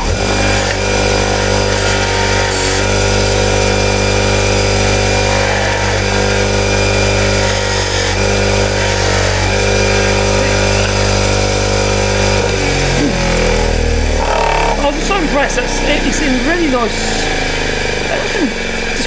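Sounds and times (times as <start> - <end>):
wire wheel grinder motor hum: 0.0 - 19.0.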